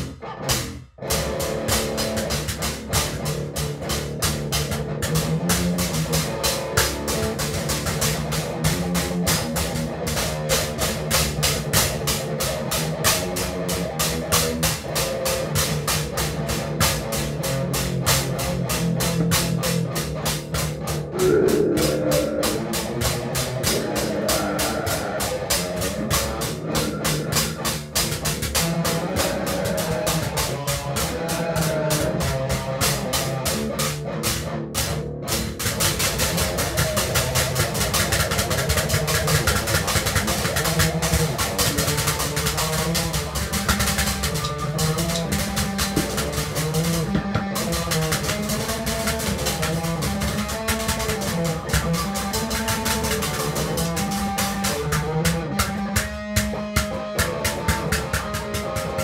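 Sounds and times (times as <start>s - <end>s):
distorted guitar: 0.0s - 59.0s
fast drumming: 0.0s - 59.0s.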